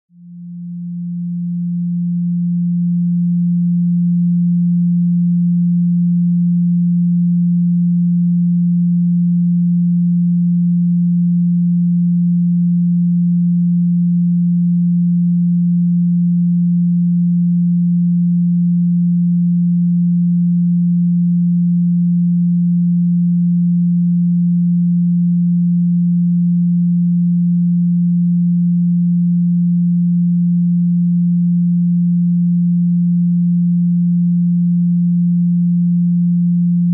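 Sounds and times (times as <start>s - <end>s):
steady sine tone: 0.0s - 36.9s.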